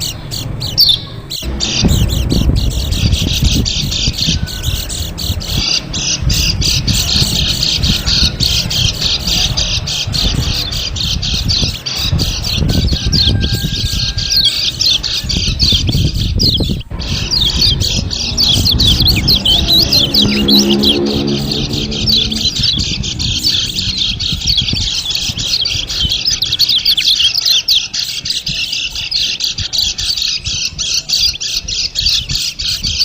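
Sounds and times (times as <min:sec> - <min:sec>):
low rumble: 0:00.0 - 0:26.6
high bird chirps and twitters: 0:00.0 - 0:33.0.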